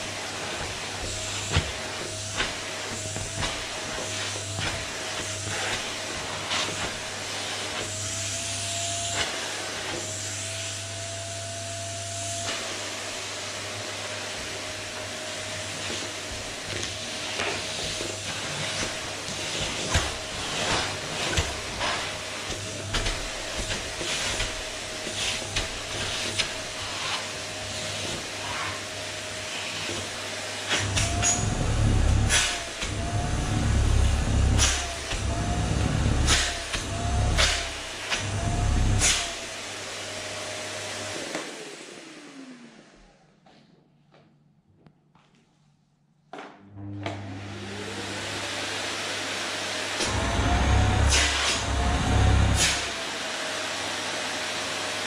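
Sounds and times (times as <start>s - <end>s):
vacuum cleaner whining: 0.0s - 43.9s, 46.5s - 55.0s.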